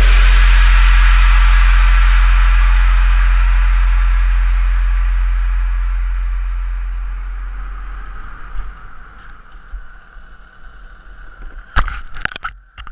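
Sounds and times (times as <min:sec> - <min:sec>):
wind on microphone: 0:00.0 - 0:12.9.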